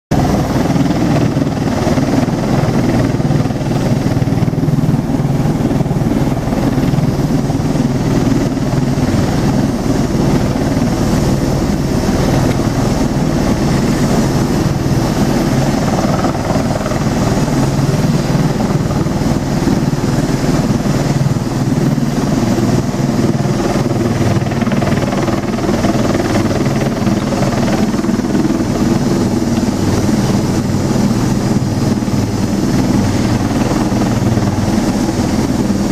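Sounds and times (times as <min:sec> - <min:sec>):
aircraft rotors and engines droning: 0:00.1 - 0:35.9.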